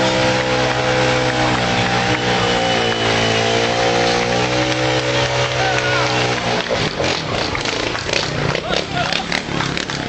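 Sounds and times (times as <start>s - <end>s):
truck engine running at raised revs: 0.0s - 10.0s.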